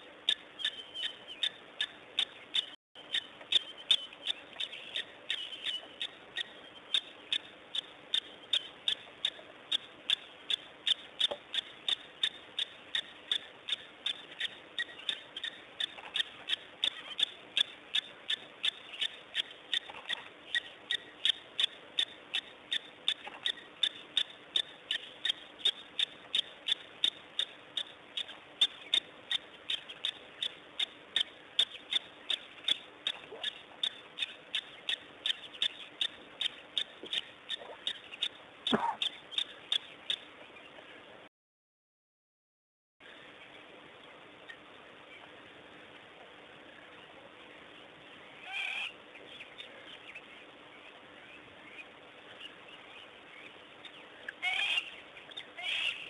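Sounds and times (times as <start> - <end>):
faint steady hum: 0.0 - 41.3, 43.0 - 56.0.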